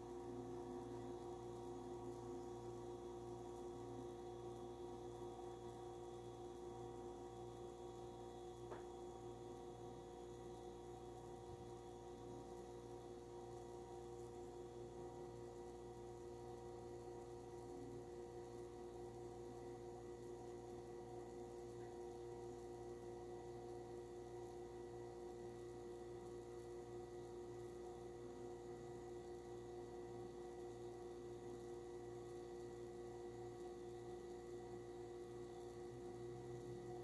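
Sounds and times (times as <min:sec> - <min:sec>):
oven humming: 0:00.0 - 0:37.0.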